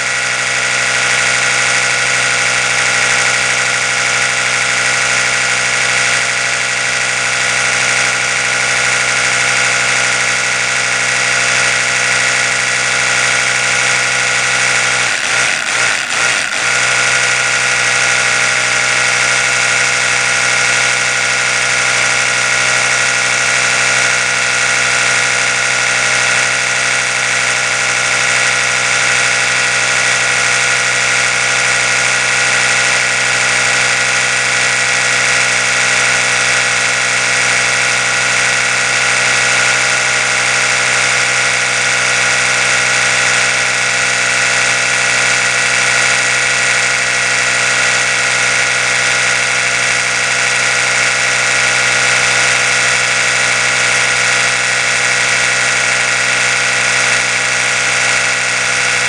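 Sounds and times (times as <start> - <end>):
electric toothbrush buzzing: 0.0 - 59.0.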